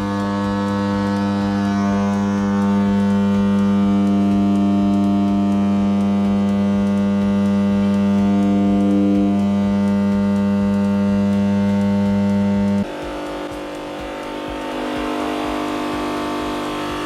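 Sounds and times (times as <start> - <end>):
subwoofer sine tone hum: 0.0 - 17.0.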